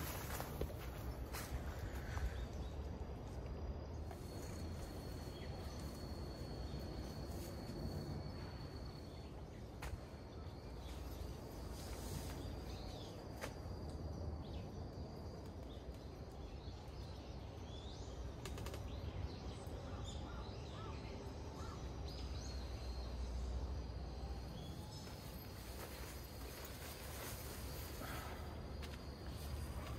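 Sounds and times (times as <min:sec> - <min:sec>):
high insect trill: 0:00.0 - 0:18.5, 0:19.9 - 0:29.9.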